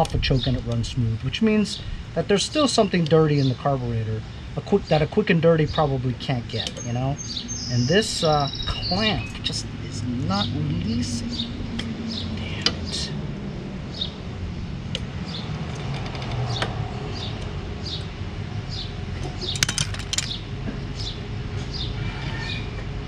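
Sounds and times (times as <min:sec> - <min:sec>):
steady low hum: 0:00.0 - 0:23.0
bird chirping: 0:01.4 - 0:14.3, 0:15.2 - 0:22.7.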